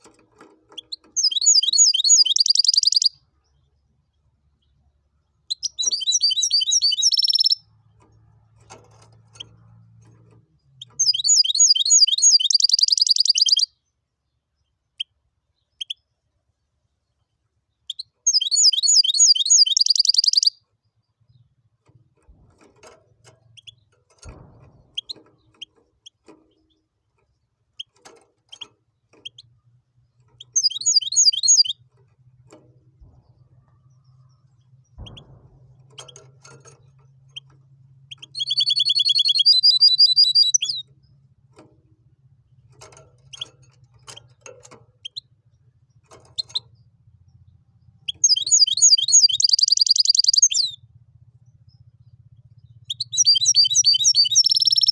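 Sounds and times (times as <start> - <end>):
bird chirps: 0.0 - 7.8, 9.3 - 21.6, 23.4 - 32.0, 33.0 - 41.2, 42.7 - 54.9
bird trilling song: 0.0 - 7.8, 9.3 - 16.3, 17.0 - 21.6, 23.2 - 41.7, 42.7 - 54.9.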